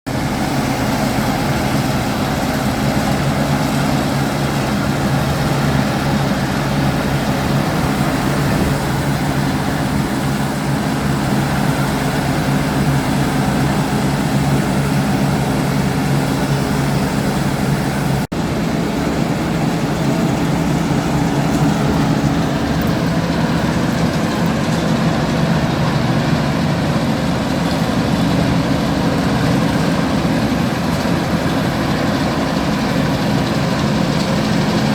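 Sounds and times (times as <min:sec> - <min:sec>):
combine harvester running: 0:00.1 - 0:34.9.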